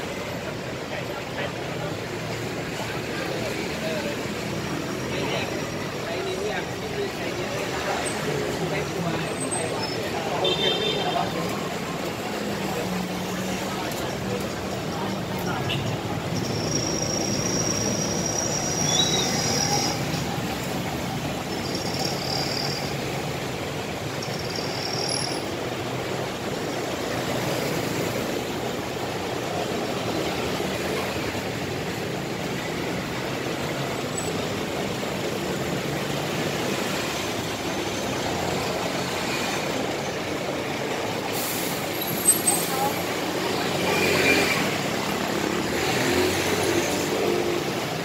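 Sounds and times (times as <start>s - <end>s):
cars buses and motorbikes passing: 0.0s - 48.0s.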